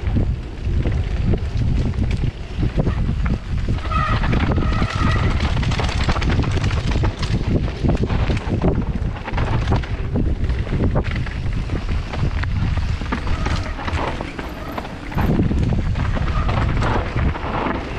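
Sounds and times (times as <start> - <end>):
low rumble: 0.0 - 17.9
wind buffeting microphone: 0.0 - 17.9.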